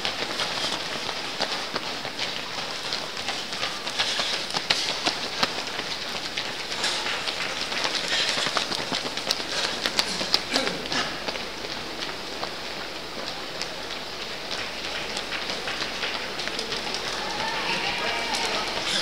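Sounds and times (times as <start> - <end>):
running footsteps on stone: 0.0 - 19.0.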